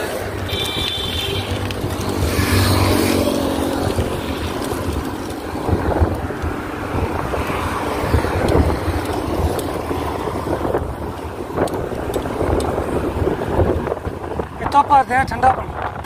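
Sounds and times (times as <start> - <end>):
passing vehicle engine hum: 0.0 - 14.6
road traffic: 0.0 - 16.0
wind buffeting microphone: 0.0 - 16.0.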